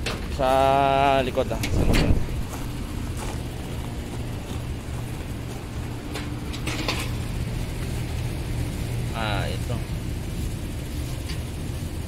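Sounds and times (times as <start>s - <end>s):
air conditioner units humming: 0.0s - 12.0s.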